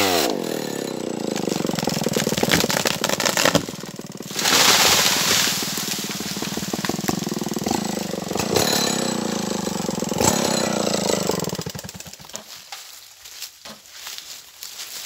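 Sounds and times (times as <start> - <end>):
chainsaw engine running hard: 0.0 - 12.5.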